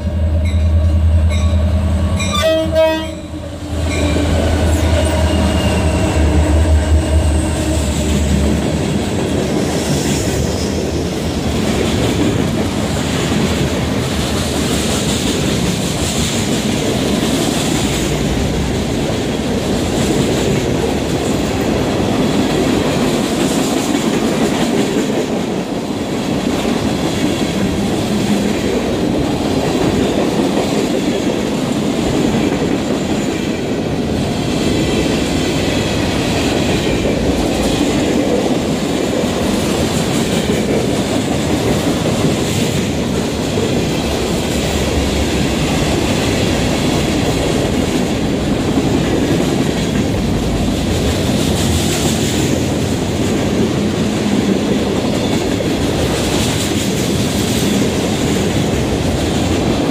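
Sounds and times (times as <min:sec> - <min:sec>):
diesel locomotive engine drone: 0:00.0 - 0:59.9
train wheels clickety-clack: 0:03.8 - 0:59.9.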